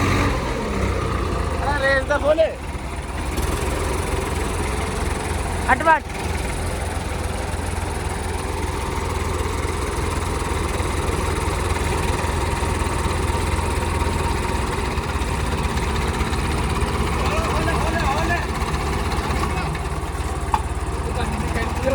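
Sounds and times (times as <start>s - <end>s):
diesel tractor engine running: 0.0s - 21.9s.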